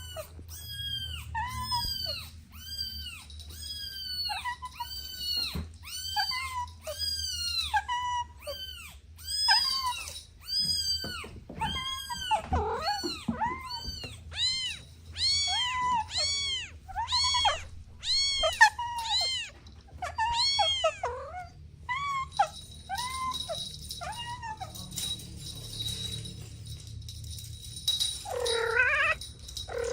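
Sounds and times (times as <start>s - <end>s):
kittens mewing: 0.0s - 24.9s, 28.2s - 29.9s.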